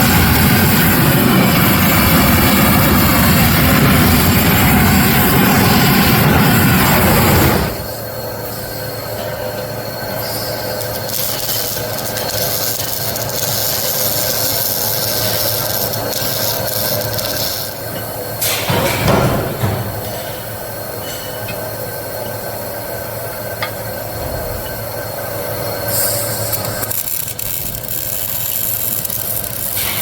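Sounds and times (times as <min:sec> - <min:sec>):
loud noisy welding burst: 0:00.0 - 0:21.1, 0:24.1 - 0:30.0
machine hum with high whine: 0:00.0 - 0:30.0.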